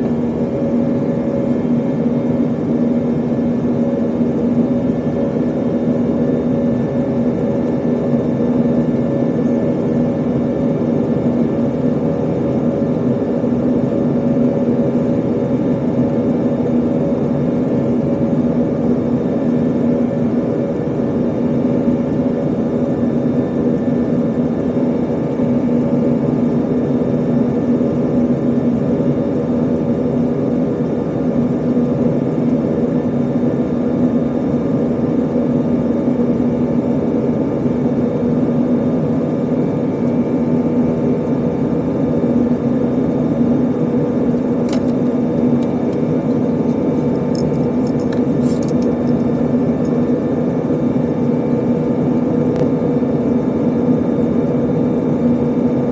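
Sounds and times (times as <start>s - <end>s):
airplane cabin engine drone: 0.0s - 55.9s.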